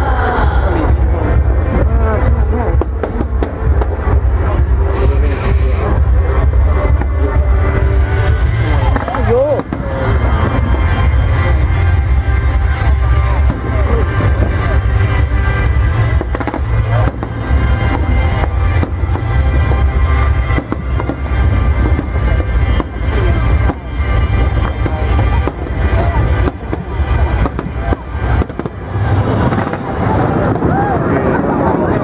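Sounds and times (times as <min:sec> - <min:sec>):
fireworks booms and cracks: 0:00.0 - 0:32.0.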